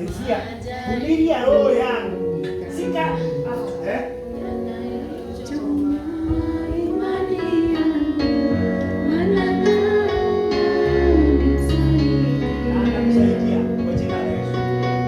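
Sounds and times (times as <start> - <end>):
instrumental accompaniment: 0.0 - 15.0
person singing gospel melody: 0.0 - 15.0.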